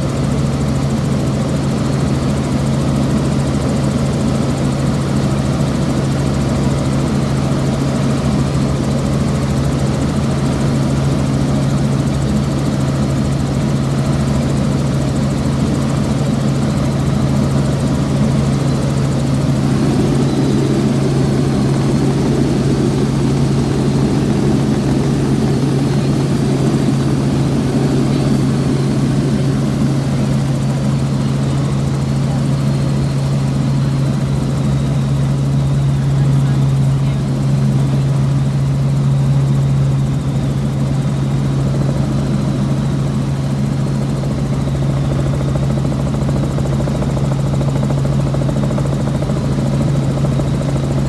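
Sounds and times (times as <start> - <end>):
helicopter engine and rotor drone: 0.0 - 51.0.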